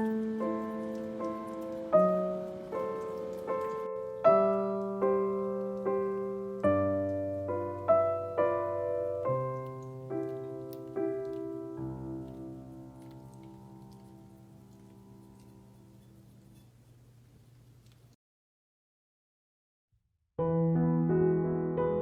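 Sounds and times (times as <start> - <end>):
gentle solo piano: 0.0 - 16.1, 20.4 - 22.0.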